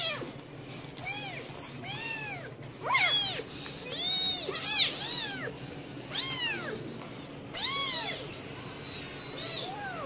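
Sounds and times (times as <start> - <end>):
kittens meowing: 0.0 - 0.3, 1.0 - 10.0.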